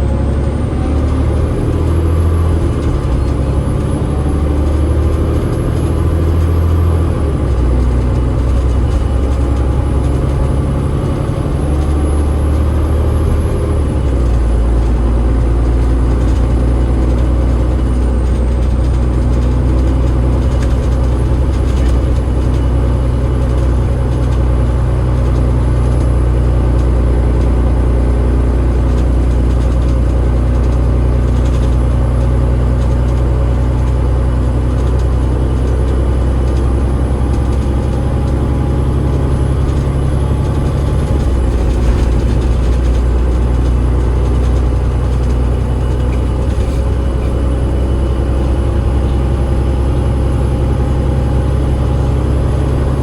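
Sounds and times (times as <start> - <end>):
bus diesel engine droning: 0.0 - 53.0.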